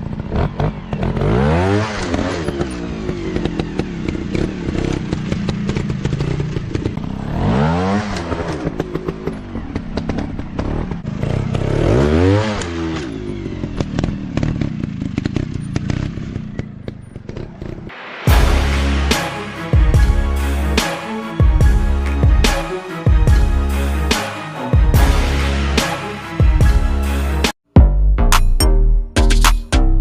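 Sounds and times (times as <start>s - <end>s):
dirt bike engine revving: 0.0s - 27.5s.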